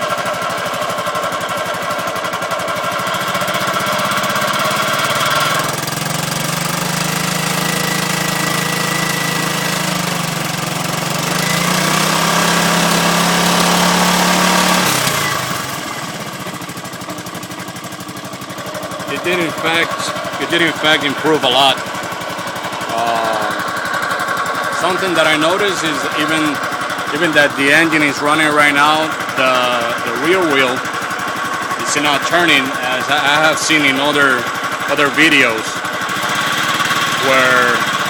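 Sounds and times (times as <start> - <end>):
scooter engine idling: 0.0 - 38.0.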